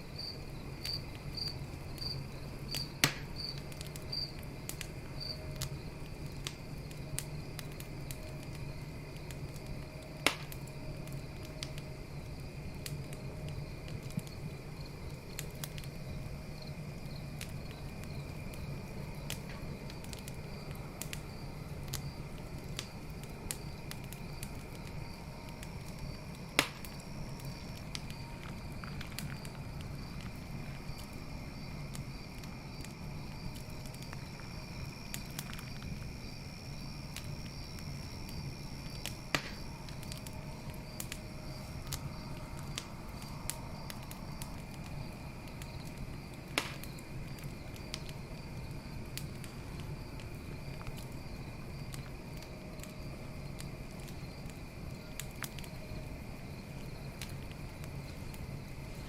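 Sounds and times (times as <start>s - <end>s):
campfire crackling and popping: 0.0s - 59.0s
crickets chirping: 0.0s - 59.0s.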